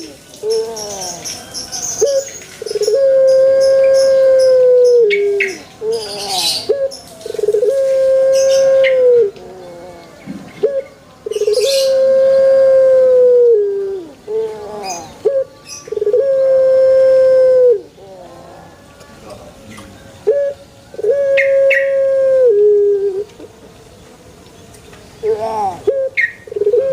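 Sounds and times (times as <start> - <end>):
dove cooing: 0.0 - 23.5, 25.2 - 26.9.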